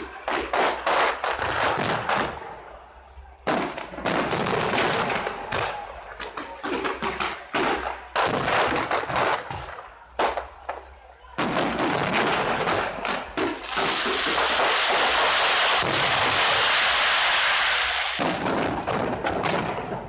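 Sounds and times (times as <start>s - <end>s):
firework crackling: 0.0s - 20.0s.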